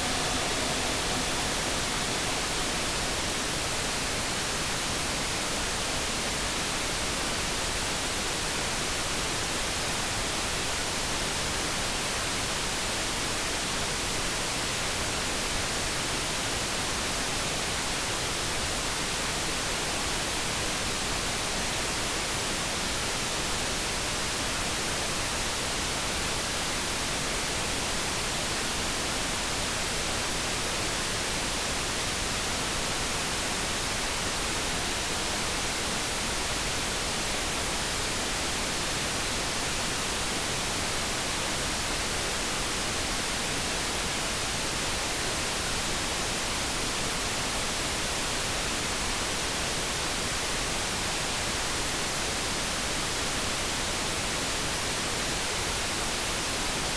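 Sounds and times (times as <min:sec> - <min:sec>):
brown noise hiss: 0:00.0 - 0:56.9.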